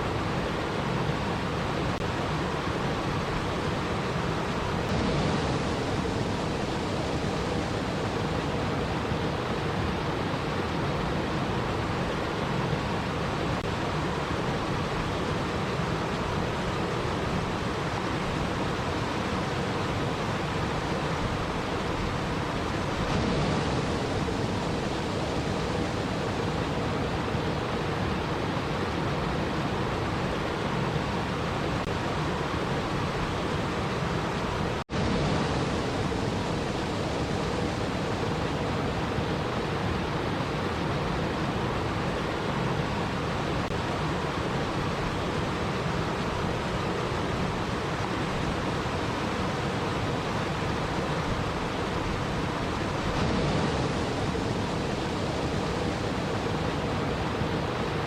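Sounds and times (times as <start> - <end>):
steady water hiss: 0.0 - 58.0.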